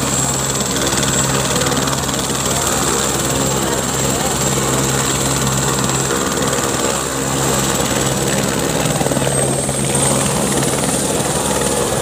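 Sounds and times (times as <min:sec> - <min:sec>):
helicopter rotor chop: 0:00.0 - 0:12.0
helicopter turbine whine: 0:00.0 - 0:12.0.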